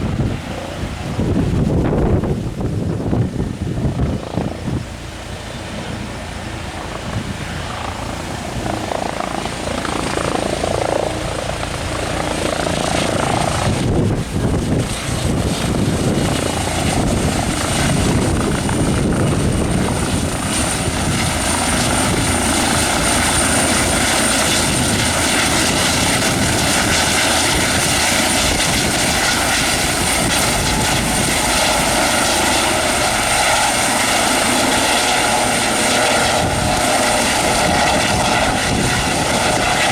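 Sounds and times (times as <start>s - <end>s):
helicopter turbine whine and rotor: 0.0s - 39.9s.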